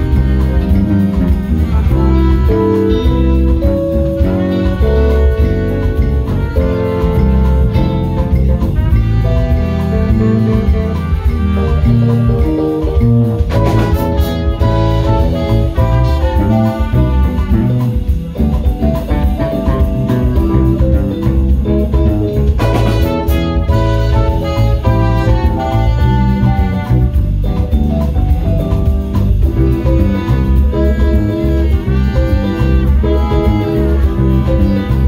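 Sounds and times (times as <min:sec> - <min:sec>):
drum kit: 0:00.0 - 0:35.0
electric guitar: 0:00.0 - 0:35.0
keyboard: 0:00.0 - 0:35.0.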